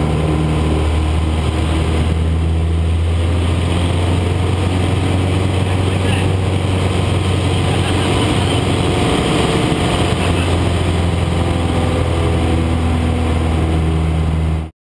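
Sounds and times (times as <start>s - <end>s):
aircraft engine drone: 0.0s - 14.7s.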